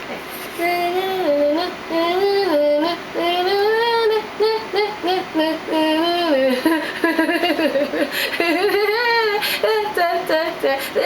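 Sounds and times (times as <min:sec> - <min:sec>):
woman singing wordless tune: 0:00.4 - 0:11.0.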